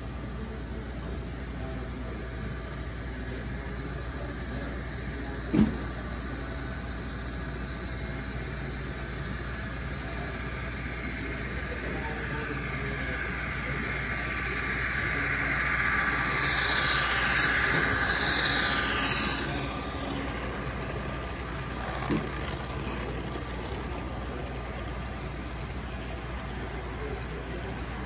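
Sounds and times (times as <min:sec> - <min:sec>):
model train wheels hissing: 0:00.3 - 0:28.0.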